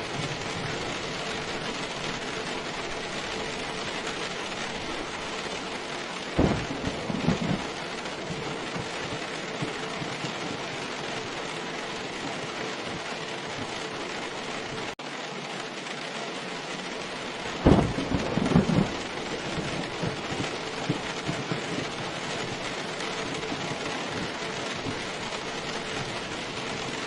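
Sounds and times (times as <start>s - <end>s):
thunderclap rumbling: 0.0s - 14.9s, 17.1s - 27.0s
heavy rain: 0.0s - 27.0s.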